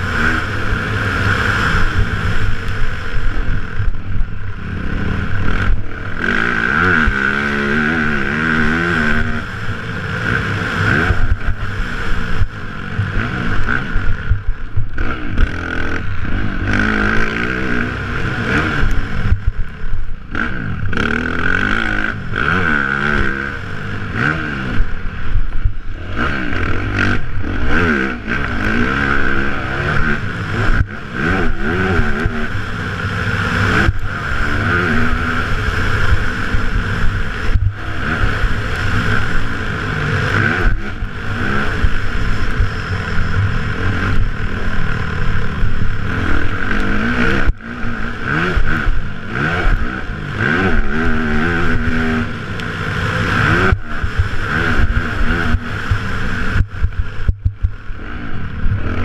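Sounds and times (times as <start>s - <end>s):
dirt bike engine revving: 0.0s - 59.0s
wind noise: 0.0s - 59.0s.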